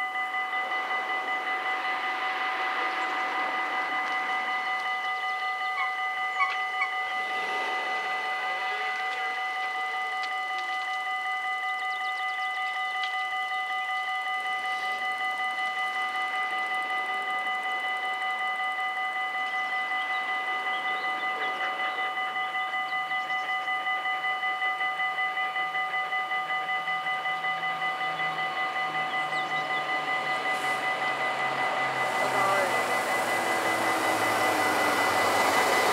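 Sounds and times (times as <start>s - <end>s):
level crossing warning bells: 0.0s - 35.9s.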